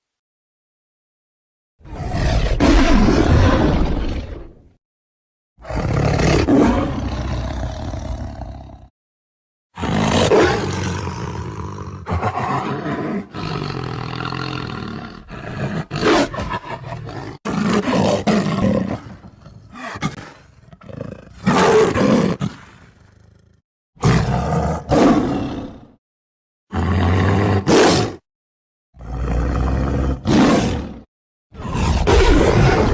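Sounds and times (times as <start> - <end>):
tiger roaring and growling: 1.8 - 4.7, 5.6 - 8.9, 9.8 - 26.0, 26.7 - 28.2, 29.0 - 32.9.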